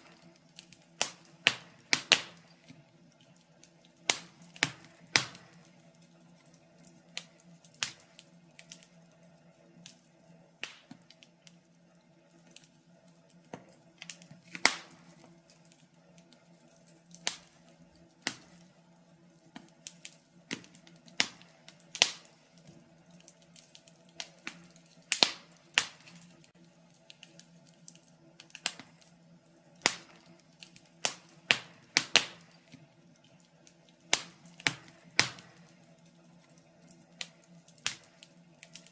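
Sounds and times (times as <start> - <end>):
faint steady hum: 0.0 - 38.9
wood fire crackling and popping: 0.0 - 38.9.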